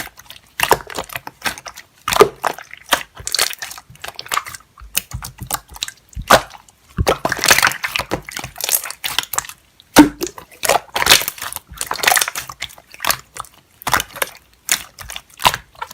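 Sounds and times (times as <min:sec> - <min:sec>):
slime squishing and crackling: 0:00.0 - 0:15.9.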